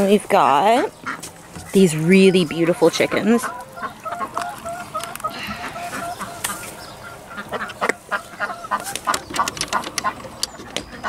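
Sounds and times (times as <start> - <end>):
ducks quacking: 0.4 - 11.0.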